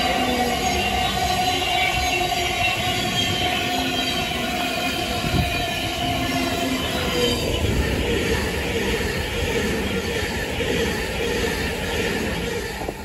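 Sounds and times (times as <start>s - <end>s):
electric train whine: 0.0s - 13.0s
train wheels rumbling on rail: 0.0s - 13.0s.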